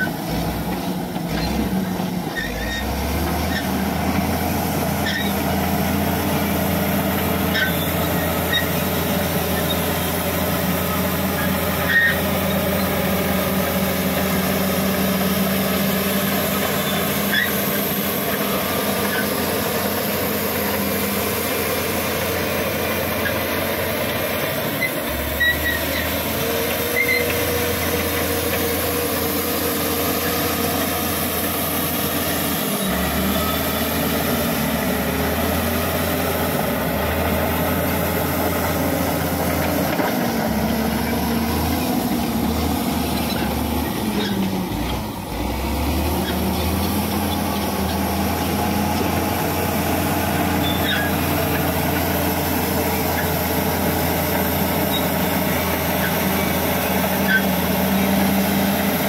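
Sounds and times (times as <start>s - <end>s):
bulldozer diesel engine running: 0.0s - 59.0s
bulldozer pushing soil and gravel: 0.0s - 59.0s.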